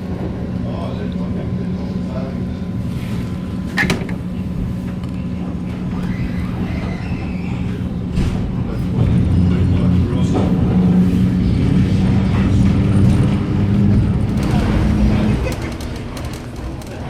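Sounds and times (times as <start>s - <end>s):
electric train hum and rumble: 0.0s - 17.0s.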